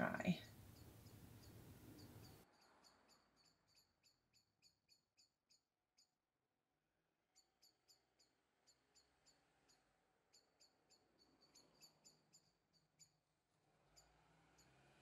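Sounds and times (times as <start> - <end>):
small bird chirping faintly: 0.0 - 15.0.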